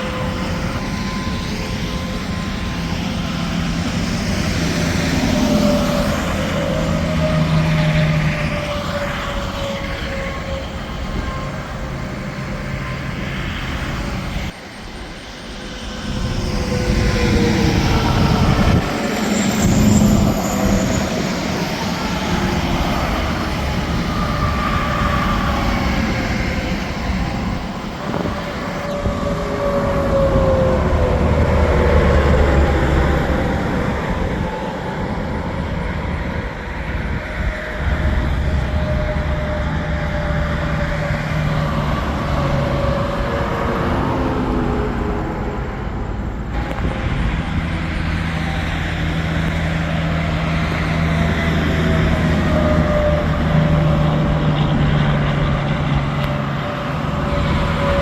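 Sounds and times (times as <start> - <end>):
trucks passing on highway: 0.0 - 58.0.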